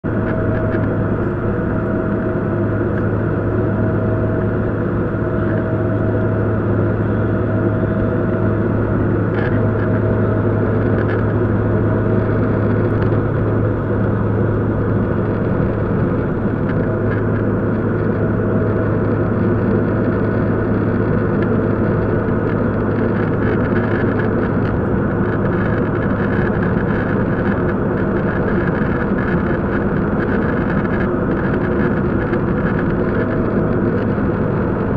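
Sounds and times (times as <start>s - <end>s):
jet engines droning: 0.0s - 34.9s
low hum: 0.0s - 34.9s.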